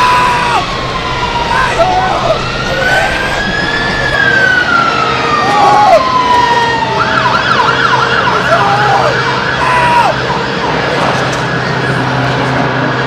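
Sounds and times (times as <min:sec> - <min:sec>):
siren wailing: 0:00.0 - 0:13.0
siren yelping: 0:00.0 - 0:13.0.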